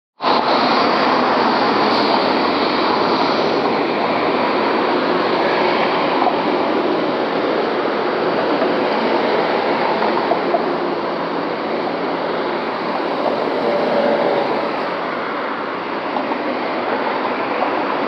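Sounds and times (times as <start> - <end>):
cars and truck passing: 0.2 - 18.0.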